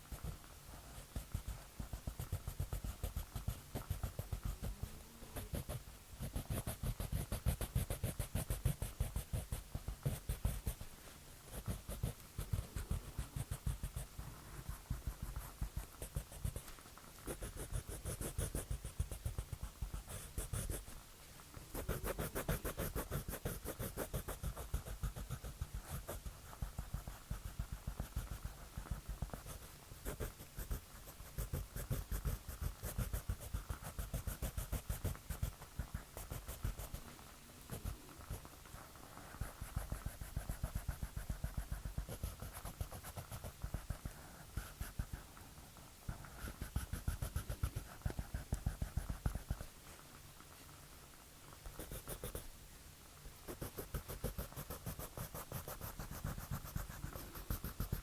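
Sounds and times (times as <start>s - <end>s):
pencil strokes on paper: 0.0s - 21.0s, 21.7s - 37.1s, 37.7s - 50.0s, 51.6s - 52.5s, 53.5s - 58.0s.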